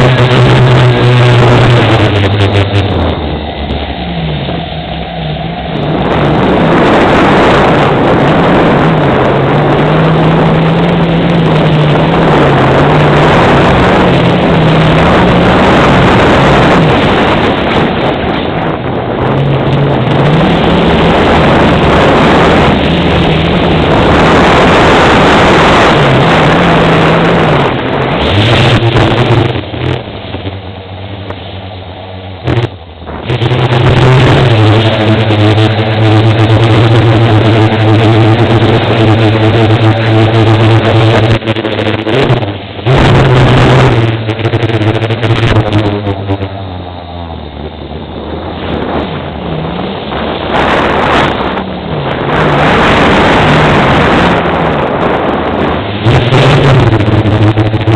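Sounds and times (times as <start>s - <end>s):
wind rush on microphone: 0.0s - 57.9s.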